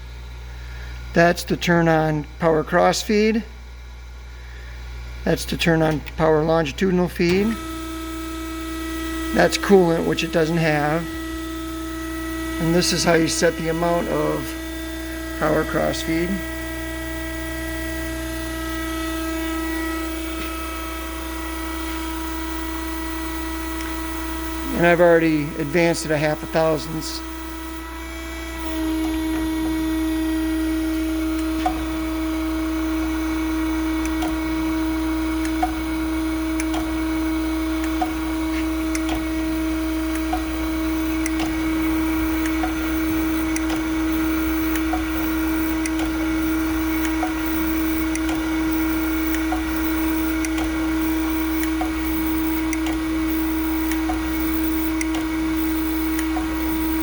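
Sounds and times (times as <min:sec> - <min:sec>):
surface grinder hum and whine: 0:03.7 - 0:57.0.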